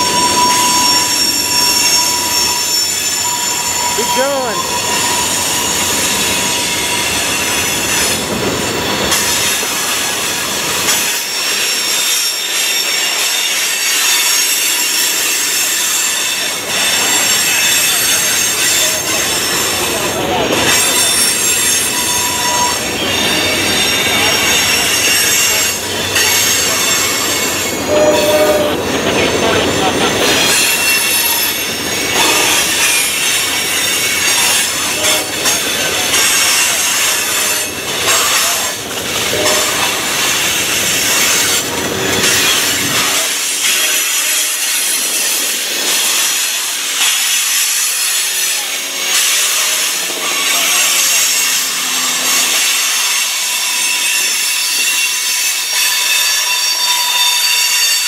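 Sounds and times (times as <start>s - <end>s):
freight train rumble and clatter: 0.0s - 58.0s
train wheels squealing: 0.0s - 58.0s.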